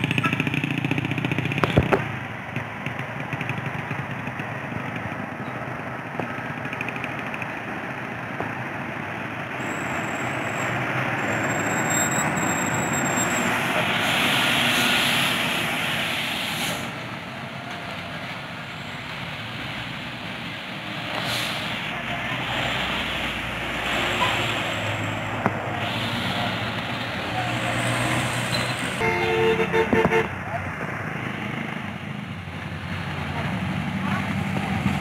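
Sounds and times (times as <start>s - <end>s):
truck diesel engine climbing: 0.0s - 35.0s.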